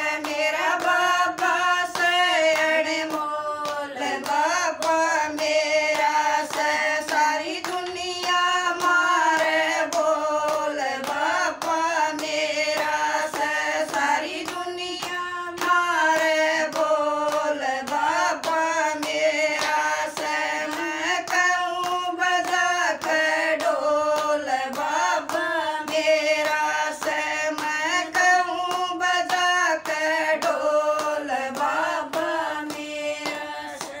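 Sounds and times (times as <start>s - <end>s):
hand-clapping: 0.0s - 34.0s
women singing in unison: 0.0s - 34.0s.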